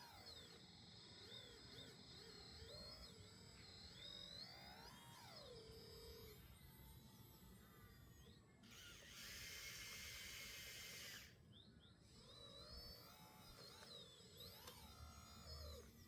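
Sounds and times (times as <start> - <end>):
small electric motor whirring: 0.0 - 16.0.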